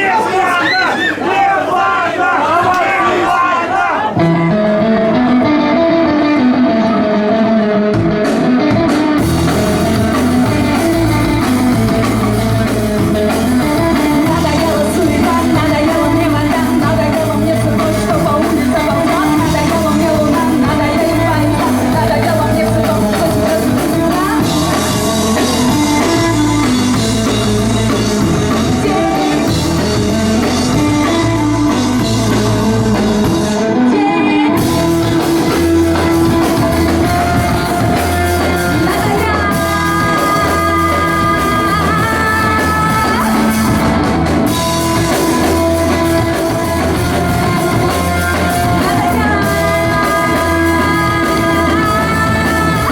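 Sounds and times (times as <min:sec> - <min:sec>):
person singing: 0:03.3 - 0:52.9
rock band playing live: 0:04.0 - 0:52.9.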